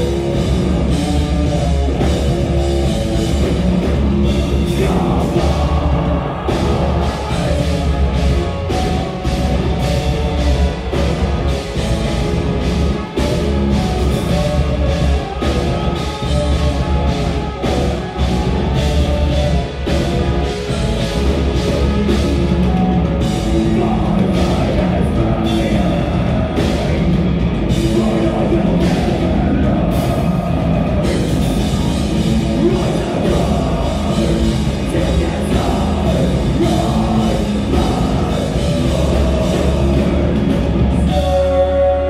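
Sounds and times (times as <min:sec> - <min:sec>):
pounding drums: 0:00.0 - 0:41.9
bass guitar: 0:00.0 - 0:42.0
distorted electric guitars: 0:00.0 - 0:42.0
person singing: 0:00.0 - 0:42.0.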